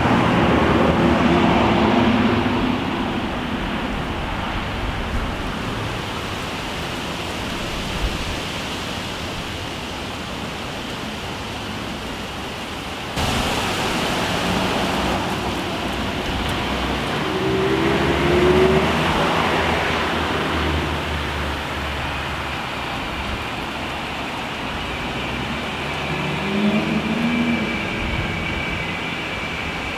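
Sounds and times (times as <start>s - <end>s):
car passing: 0.0s - 9.0s, 13.2s - 29.9s
distant traffic: 0.0s - 29.9s
light breeze: 0.0s - 29.9s.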